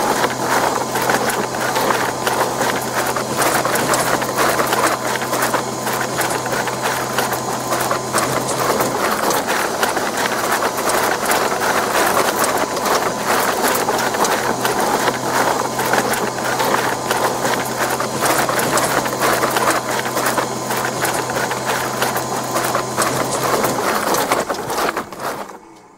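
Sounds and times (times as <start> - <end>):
dough mixer motor hum: 0.0 - 25.9
mixer rattling dough: 0.0 - 25.9.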